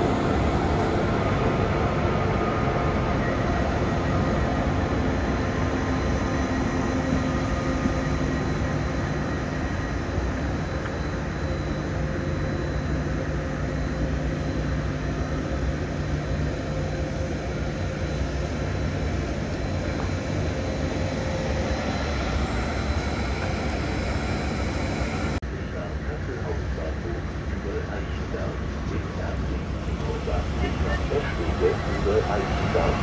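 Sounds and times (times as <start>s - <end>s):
train rolling rumble: 0.0s - 33.0s.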